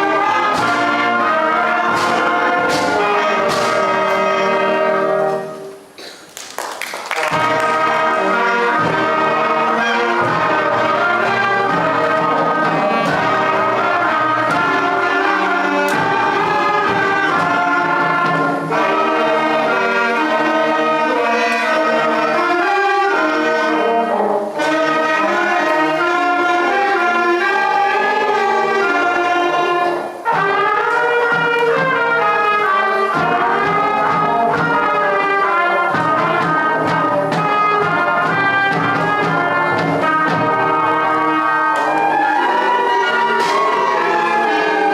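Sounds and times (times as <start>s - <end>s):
brass instruments: 0.0s - 44.9s
school concert band playing: 0.0s - 44.9s.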